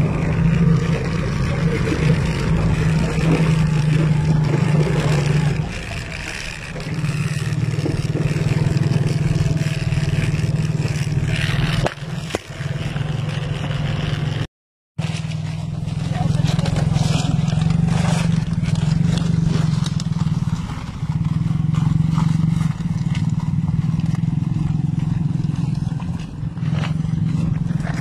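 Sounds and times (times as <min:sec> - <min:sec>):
small motorcycle engine running: 0:00.0 - 0:28.0.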